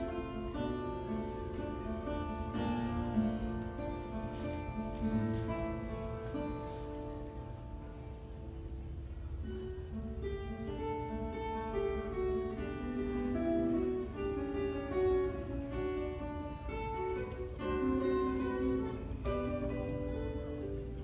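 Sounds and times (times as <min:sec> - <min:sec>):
classical guitar melody: 0:00.0 - 0:21.0.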